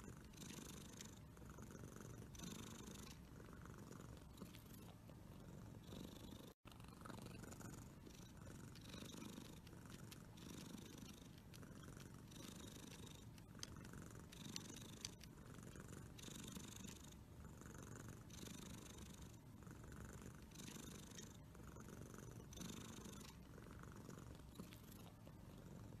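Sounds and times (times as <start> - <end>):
cat purring faintly: 0.0 - 26.0.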